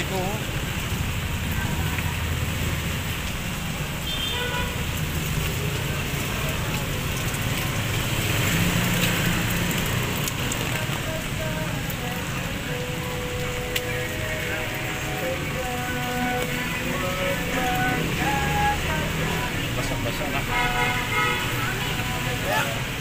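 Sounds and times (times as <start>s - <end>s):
motorcycle engines in traffic: 0.0s - 23.0s
rain hissing on wet pavement: 0.0s - 23.0s.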